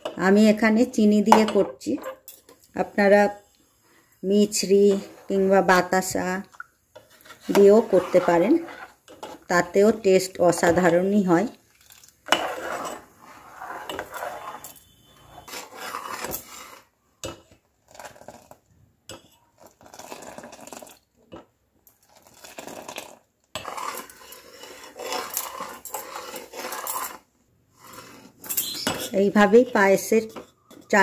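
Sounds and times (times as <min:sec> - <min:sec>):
metal ladle stirring in a pot: 0:04.4 - 0:06.2, 0:06.9 - 0:21.4, 0:22.0 - 0:31.0.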